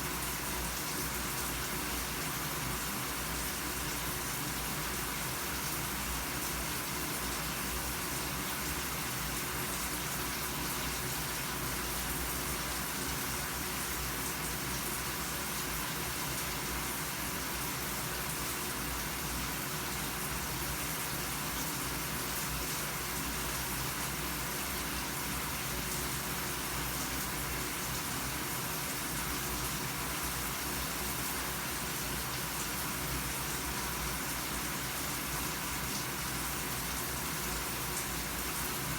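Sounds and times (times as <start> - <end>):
shower running: 0.0 - 38.9.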